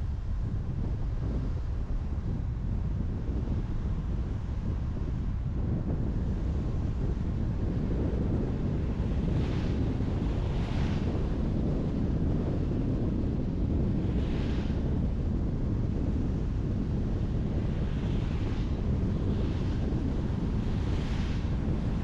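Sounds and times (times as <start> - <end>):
car tyre and wind rumble: 0.0 - 22.0.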